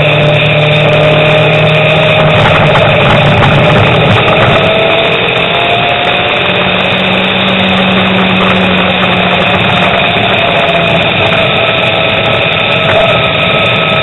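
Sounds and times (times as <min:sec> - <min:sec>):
low even hum: 0:00.0 - 0:14.0
vehicle engine and road noise: 0:00.0 - 0:14.0.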